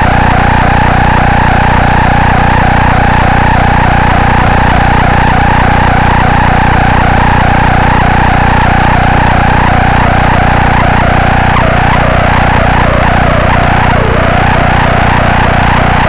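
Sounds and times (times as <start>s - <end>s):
electrical buzz: 0.0s - 16.0s
warbling whine: 0.0s - 16.0s.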